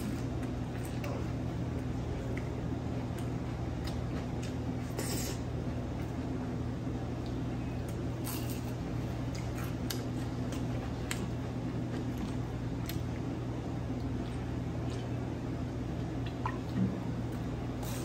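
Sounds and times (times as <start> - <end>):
chewing and wet mouth sounds: 0.0 - 6.2, 7.1 - 18.0
low room hum: 0.0 - 18.0.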